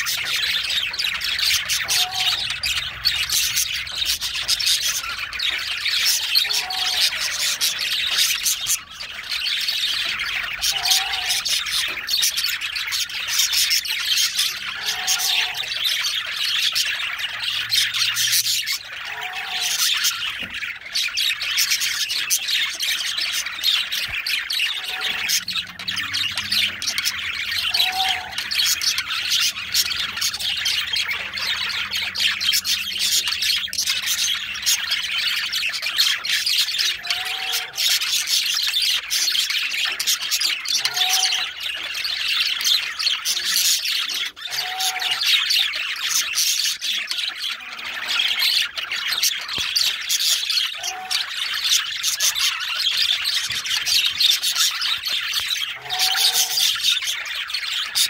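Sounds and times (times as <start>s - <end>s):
budgerigar warbling chatter: 0.0s - 58.0s.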